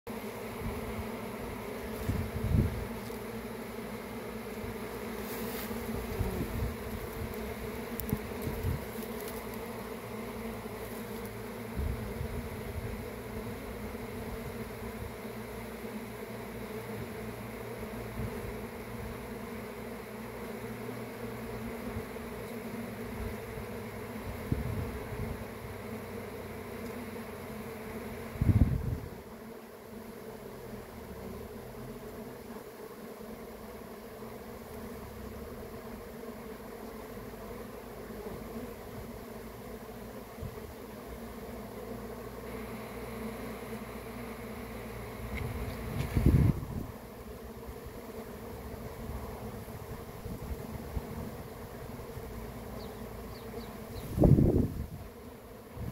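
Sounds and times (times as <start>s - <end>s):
bees buzzing: 0.1s - 55.9s.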